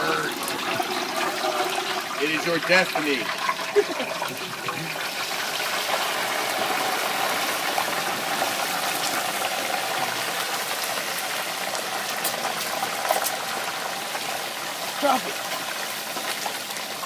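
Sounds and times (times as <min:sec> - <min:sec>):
hot oil bubbling and sizzling: 0:00.0 - 0:17.0.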